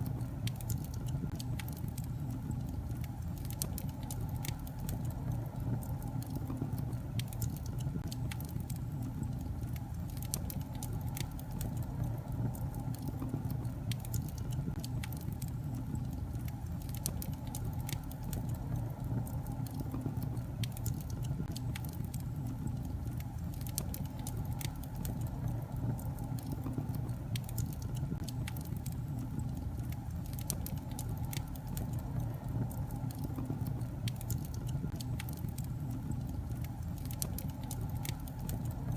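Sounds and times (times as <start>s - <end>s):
fire flames rumbling: 0.0s - 38.9s
logs crackling and popping: 0.0s - 38.9s.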